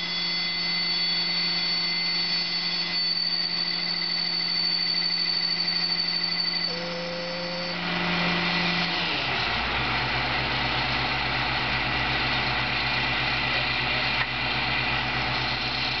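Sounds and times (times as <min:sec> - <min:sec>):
crane diesel engine running: 0:00.0 - 0:16.0
steady high whine: 0:00.0 - 0:16.0.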